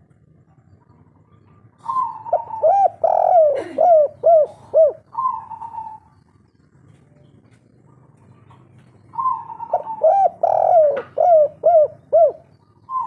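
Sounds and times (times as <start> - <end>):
dove cooing: 0.8 - 6.4, 7.9 - 13.0.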